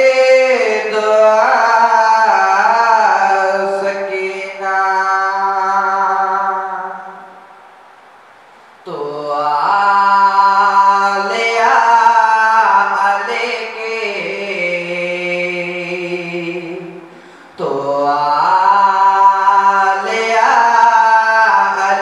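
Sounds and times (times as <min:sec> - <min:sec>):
man chanting a lament: 0:00.0 - 0:07.2, 0:08.9 - 0:22.0.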